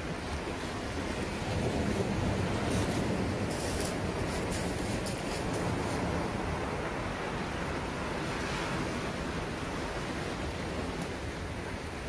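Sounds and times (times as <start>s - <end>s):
sea waves breaking on rocks: 0.0s - 11.5s.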